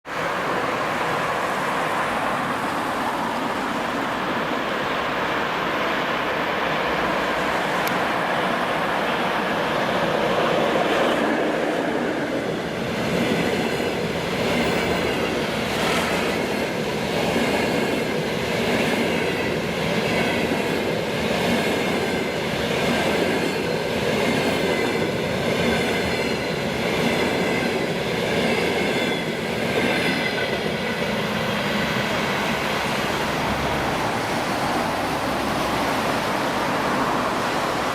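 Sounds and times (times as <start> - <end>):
train rolling rumble: 0.1 - 37.9.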